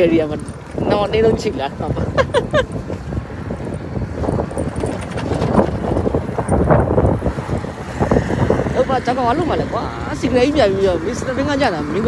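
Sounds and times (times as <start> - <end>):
bicycle rattling on wet street: 0.0 - 12.0
wind buffeting microphone: 0.0 - 12.0.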